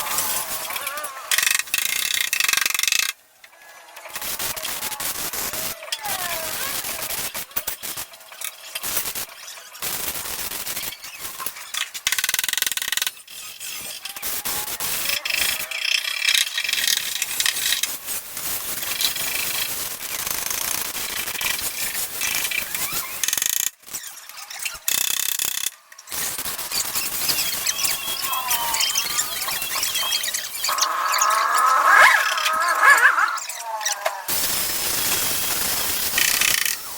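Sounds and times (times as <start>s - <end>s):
welding arc crackling: 0.0s - 2.8s, 4.2s - 11.6s, 17.1s - 36.9s.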